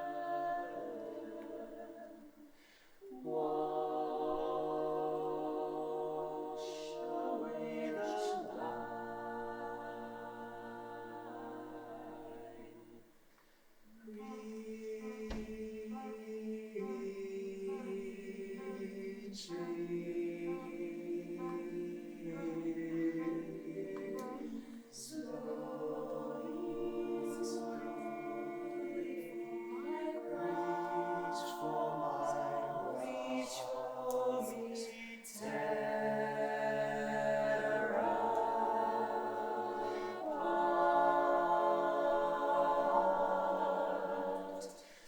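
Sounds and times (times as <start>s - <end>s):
choir singing a cappella: 0.0s - 45.0s.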